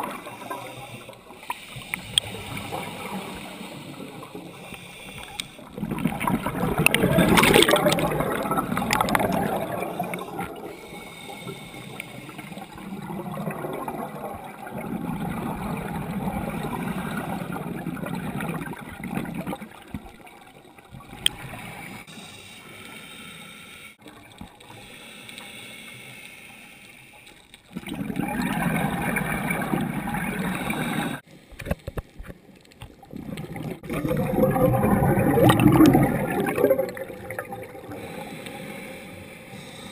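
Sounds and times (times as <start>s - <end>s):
scuba regulator bubbles underwater: 0.0s - 22.3s, 27.6s - 39.9s.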